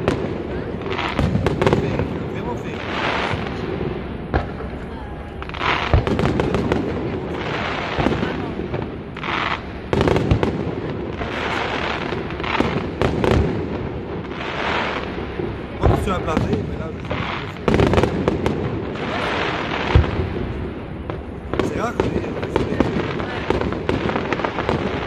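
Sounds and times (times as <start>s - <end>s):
firework bangs: 0.0s - 25.0s
firework crackling hiss: 0.0s - 25.0s.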